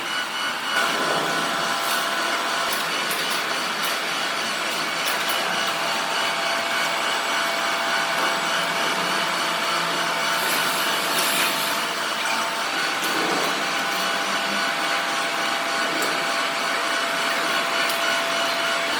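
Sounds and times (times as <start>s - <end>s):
machine whirring: 0.0s - 18.9s.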